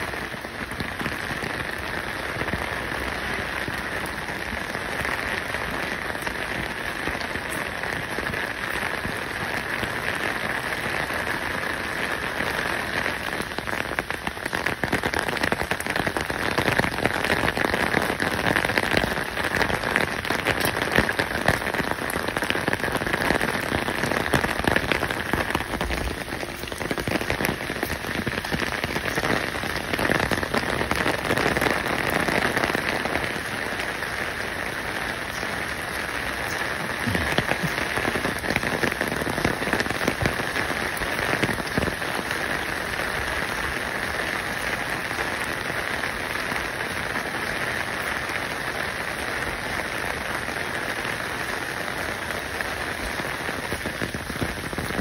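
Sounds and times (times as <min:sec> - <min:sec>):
dense crackling patter: 0:00.0 - 0:46.7.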